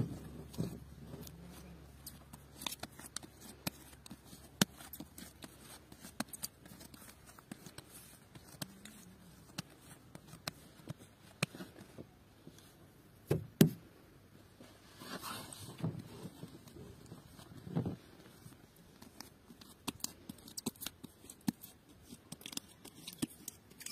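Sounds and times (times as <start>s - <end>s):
hands kneading bread dough: 0.0s - 23.9s.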